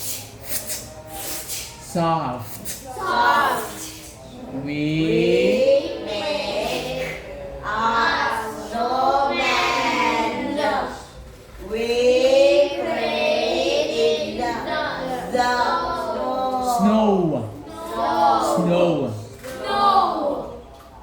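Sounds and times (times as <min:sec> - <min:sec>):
children reading aloud in unison: 0:02.7 - 0:20.8.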